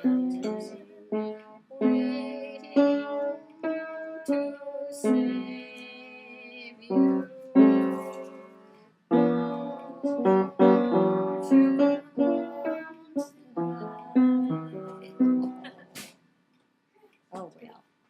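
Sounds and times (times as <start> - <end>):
piano chords ringing: 0.0 - 15.7.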